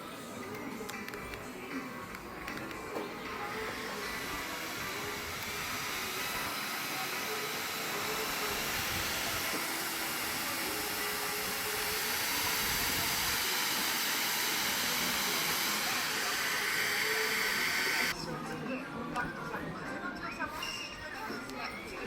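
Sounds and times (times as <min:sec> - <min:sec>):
electric fan running: 0:00.0 - 0:18.2.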